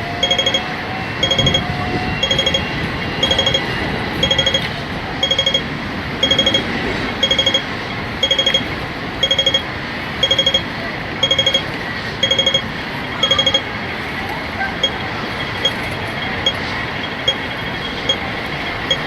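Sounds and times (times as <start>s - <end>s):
crossing signal rapid beeps: 0.0s - 13.8s, 14.7s - 19.0s.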